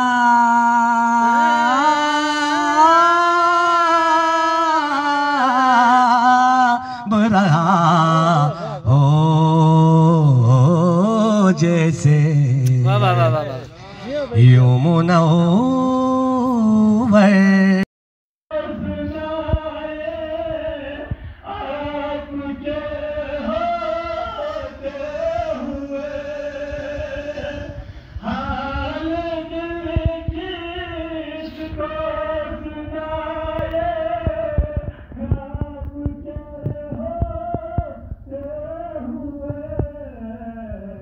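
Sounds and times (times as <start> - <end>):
man singing over loudspeaker: 0.0 - 17.9, 18.5 - 41.0.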